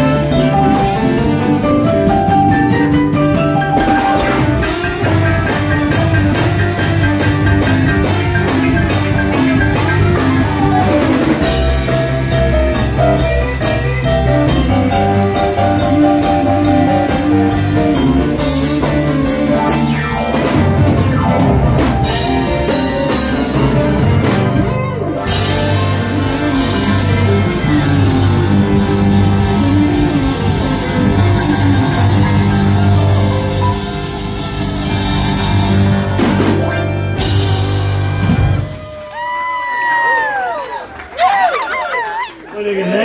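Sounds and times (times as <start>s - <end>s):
keyboard: 0.0s - 39.1s
drum kit: 0.0s - 40.7s
electric guitar: 0.0s - 42.5s.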